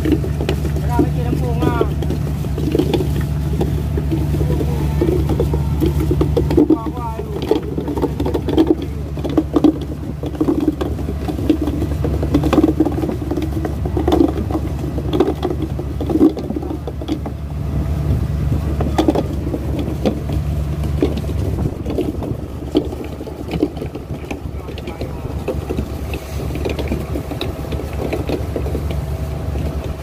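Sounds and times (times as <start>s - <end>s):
boat engine running: 0.0s - 30.0s
net and floats knocking: 0.0s - 30.0s
sea rushing against hull: 0.0s - 30.0s.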